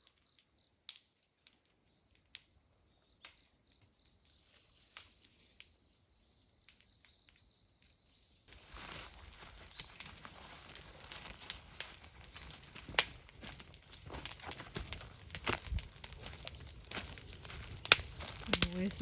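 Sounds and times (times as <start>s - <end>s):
campfire pops and crackling: 0.0s - 5.8s, 6.5s - 19.0s.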